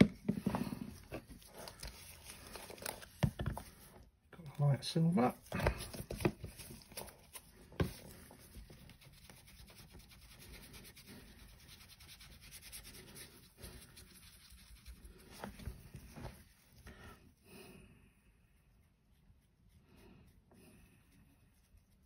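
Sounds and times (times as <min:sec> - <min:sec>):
brush rubbing on paper: 0:00.0 - 0:17.4, 0:18.2 - 0:22.0.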